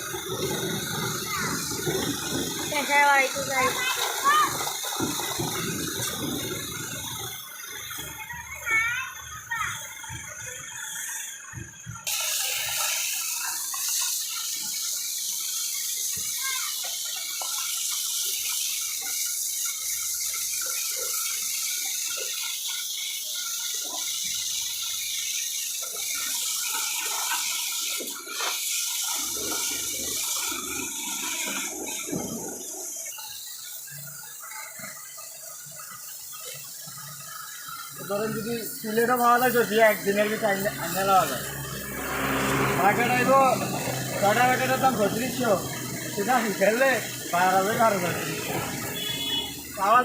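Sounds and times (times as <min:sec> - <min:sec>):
water jet spraying onto truck: 0:00.0 - 0:50.0.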